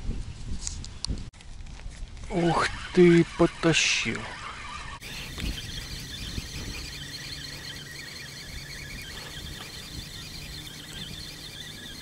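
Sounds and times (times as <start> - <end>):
fishing reel whirring: 2.3 - 12.0.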